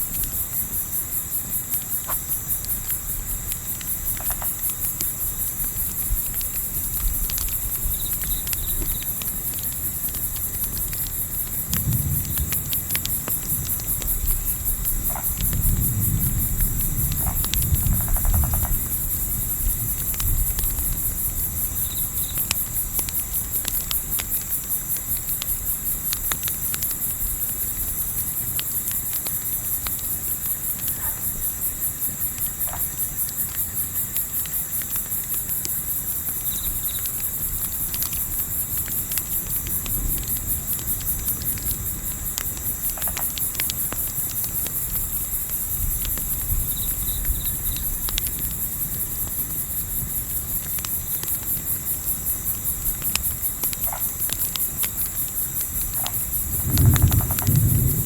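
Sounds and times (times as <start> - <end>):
low rumble of wind: 0.0 - 33.2, 36.1 - 58.0
campfire crackling: 0.0 - 58.0
crickets chirping: 0.0 - 58.0.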